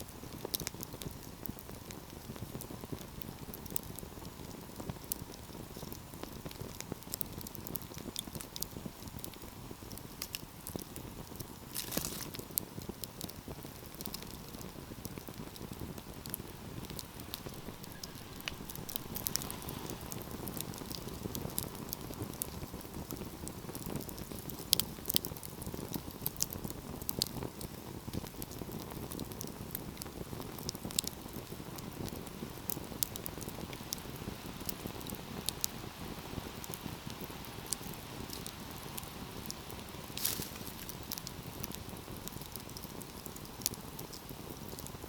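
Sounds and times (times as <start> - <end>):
rush of burning flames: 0.0 - 45.0
wood fire crackling and popping: 0.0 - 45.0.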